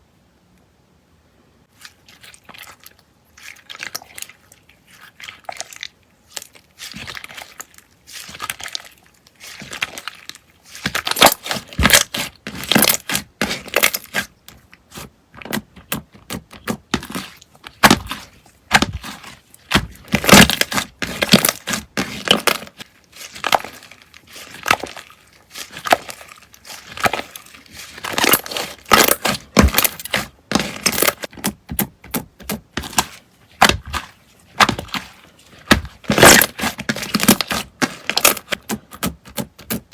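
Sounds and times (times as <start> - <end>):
slime crackling and popping: 5.6 - 34.0, 34.6 - 39.9.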